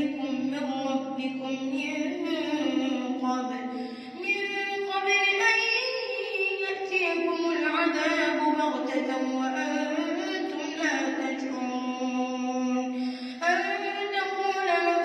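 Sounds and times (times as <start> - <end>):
boy reciting melodically: 0.0 - 15.0.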